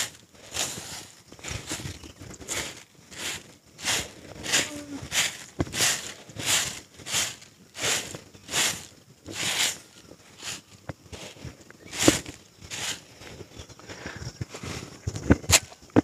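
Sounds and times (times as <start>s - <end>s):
hand broom sweeping earth: 0.0s - 13.6s.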